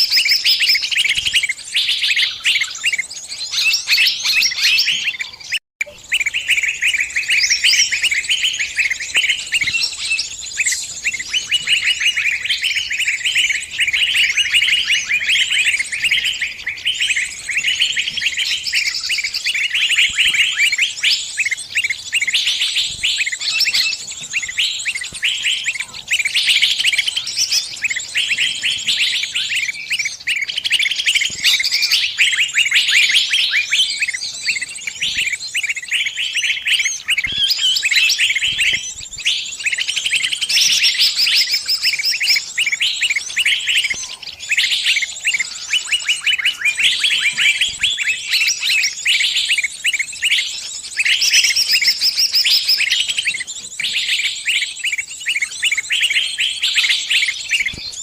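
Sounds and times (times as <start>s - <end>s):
songbird distress chirping: 0.0s - 58.0s.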